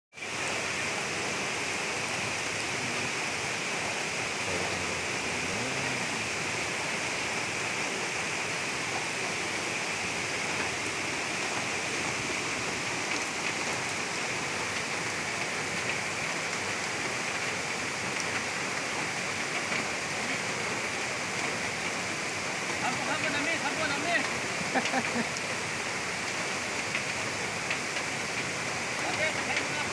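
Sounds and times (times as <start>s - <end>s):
floodwater rushing: 0.2s - 29.9s.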